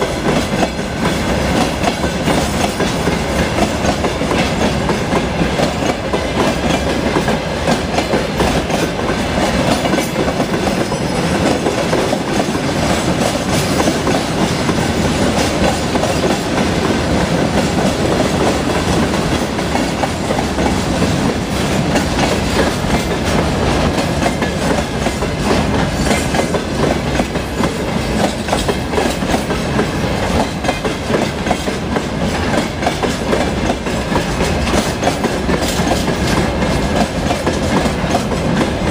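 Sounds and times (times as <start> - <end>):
train rumble: 0.0 - 38.9
train wheels clattering: 0.0 - 38.9.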